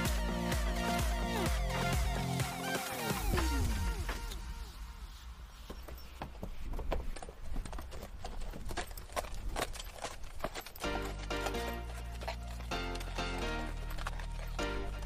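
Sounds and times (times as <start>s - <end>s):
galloping horse hoofbeats: 0.0s - 4.3s, 5.6s - 15.0s.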